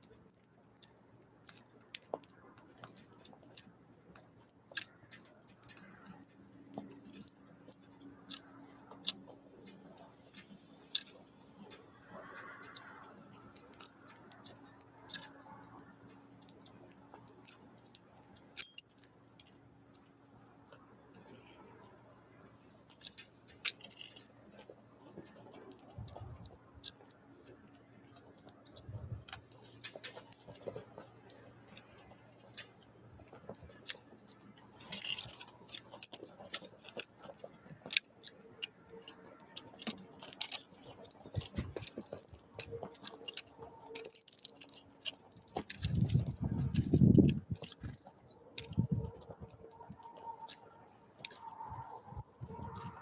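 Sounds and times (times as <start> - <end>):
birds pecking at a feeder: 0.0 - 53.0.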